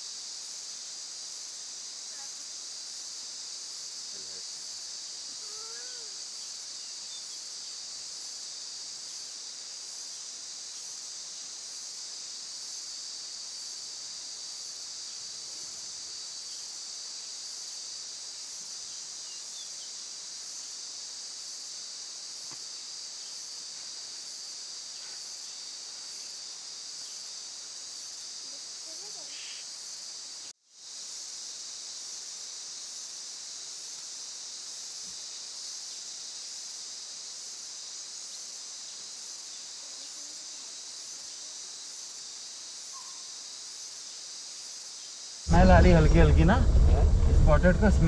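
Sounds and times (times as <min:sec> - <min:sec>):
insects buzzing high-pitched: 0:00.0 - 0:45.8
pulsing higher insect call: 0:00.0 - 0:48.0.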